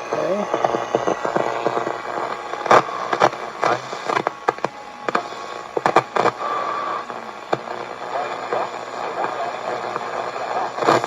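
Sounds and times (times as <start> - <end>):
radio static with crackles: 0.0 - 11.0.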